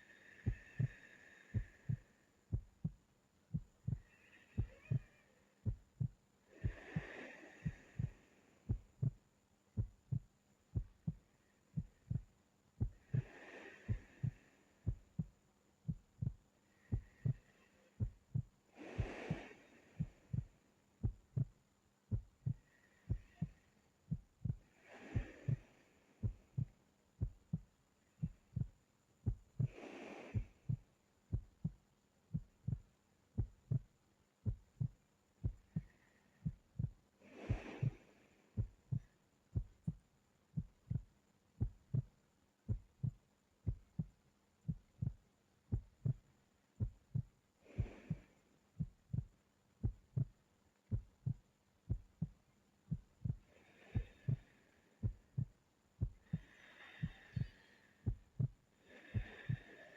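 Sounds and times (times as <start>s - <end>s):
soft sleeping breaths: 0.0s - 59.9s
heartbeat thumps: 0.4s - 38.0s, 38.6s - 59.8s.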